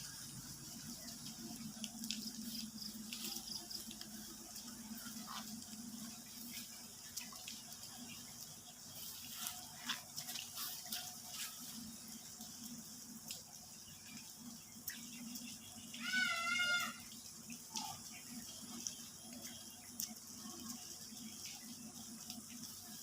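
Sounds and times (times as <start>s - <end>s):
rain falling: 0.0s - 23.0s
water drips and splashes: 0.0s - 23.0s.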